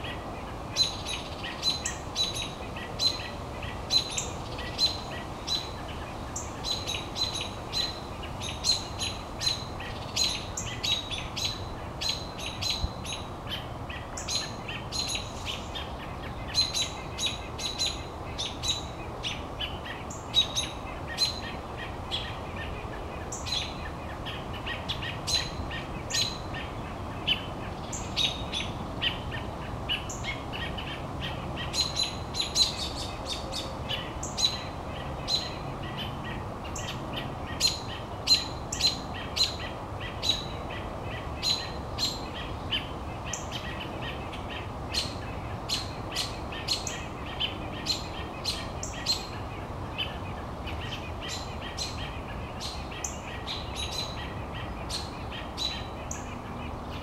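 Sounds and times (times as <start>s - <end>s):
birds alarm calls: 0.8s - 22.7s, 23.3s - 57.0s.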